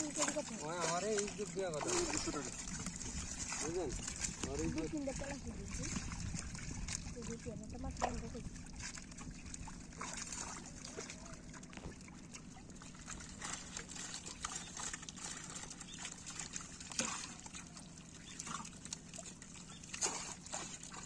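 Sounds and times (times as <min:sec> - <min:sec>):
small splashes: 0:00.0 - 0:21.0
water sloshing and dripping: 0:00.0 - 0:21.0.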